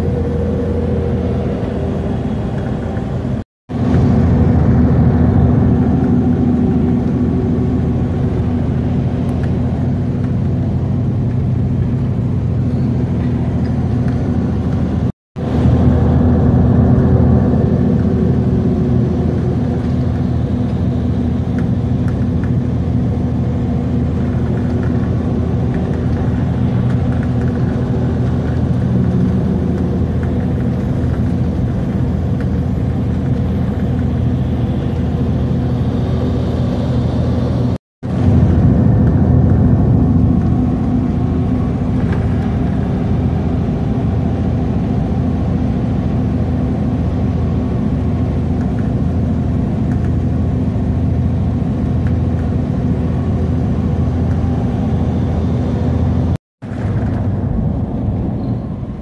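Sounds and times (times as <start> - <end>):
engine and road noise drone: 0.0 - 59.0.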